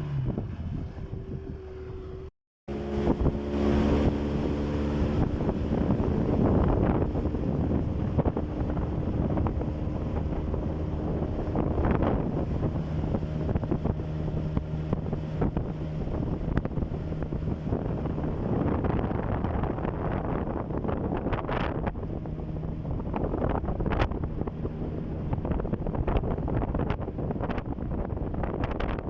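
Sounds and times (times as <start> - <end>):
outboard motor running: 0.0 - 29.0
wind buffeting microphone: 0.0 - 29.0.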